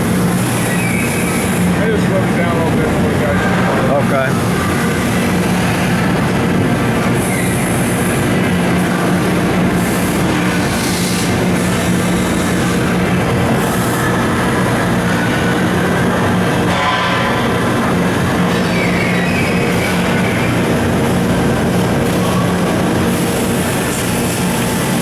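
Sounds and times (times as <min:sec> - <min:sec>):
machining center humming: 0:00.0 - 0:25.0.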